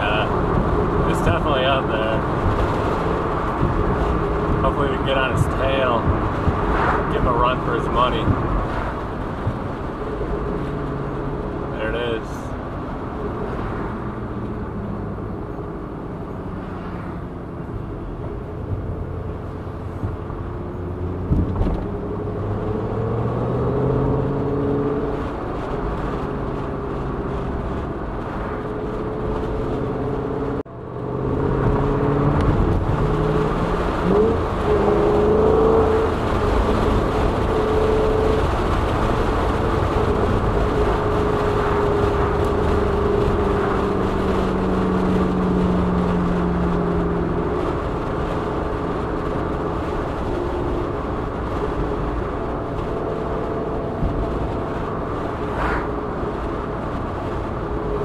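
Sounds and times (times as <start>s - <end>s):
car engine accelerating: 0.0s - 58.0s
tyre and road noise: 0.0s - 58.0s.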